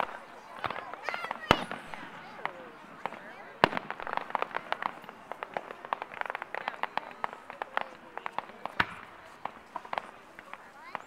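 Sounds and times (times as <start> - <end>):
firework bang: 0.0 - 10.7
fireworks crackling: 0.0 - 11.0.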